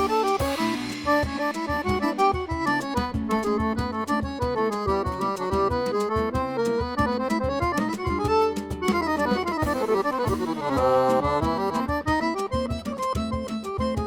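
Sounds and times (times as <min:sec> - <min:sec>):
accordion playing: 0:00.0 - 0:14.0.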